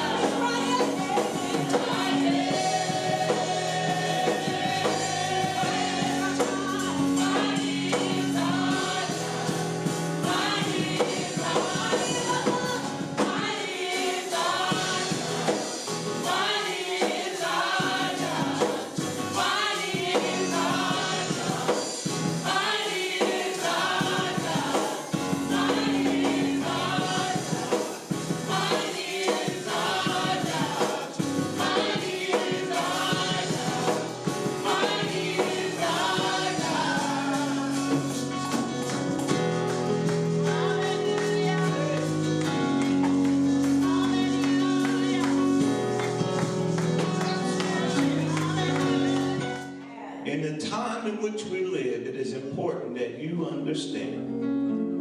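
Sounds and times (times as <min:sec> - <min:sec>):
band accompaniment: 0:00.0 - 0:49.8
gospel choir singing: 0:00.0 - 0:54.5.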